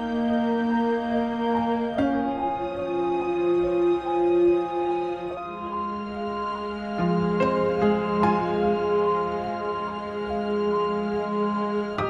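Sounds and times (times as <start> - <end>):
slow held chord music: 0.0 - 12.0.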